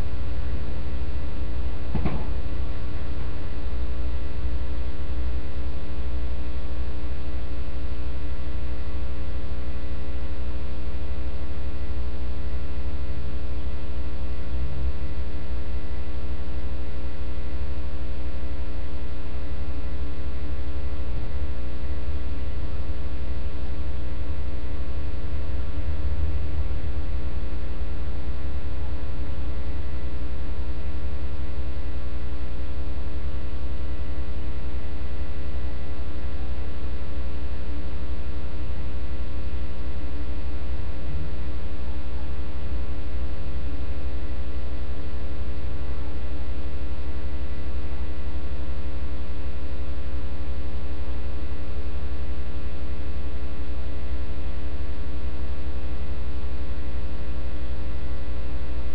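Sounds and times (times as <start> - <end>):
electrical mains hum: 0.0 - 58.9.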